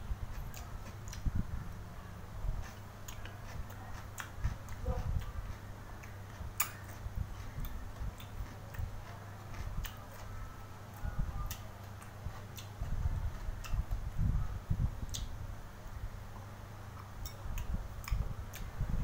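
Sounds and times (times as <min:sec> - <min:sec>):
low steady hum: 0:00.0 - 0:19.0
person chewing and smacking: 0:00.1 - 0:01.4, 0:02.5 - 0:14.2, 0:15.0 - 0:19.0.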